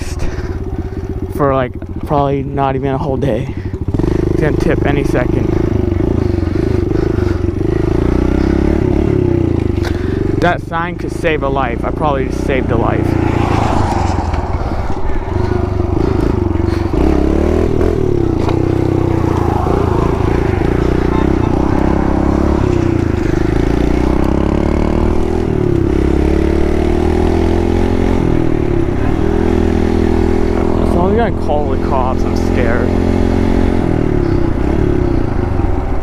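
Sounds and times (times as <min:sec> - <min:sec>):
motorbike engine running: 0:00.0 - 0:36.0.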